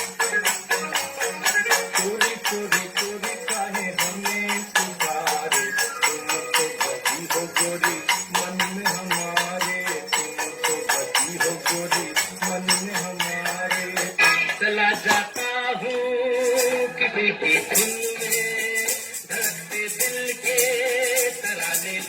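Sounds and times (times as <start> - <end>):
fast jingling percussion beat: 0.0 - 22.0.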